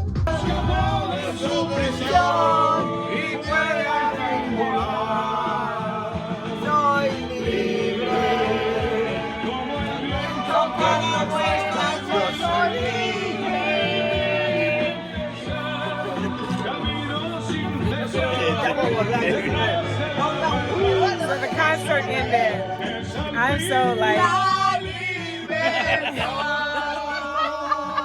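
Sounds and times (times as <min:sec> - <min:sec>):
band accompaniment: 0:00.0 - 0:26.7
voices singing: 0:00.3 - 0:28.0.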